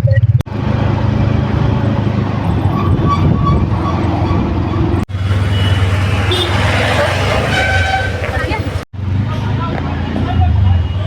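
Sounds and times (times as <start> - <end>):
road traffic engines humming: 0.0 - 11.0.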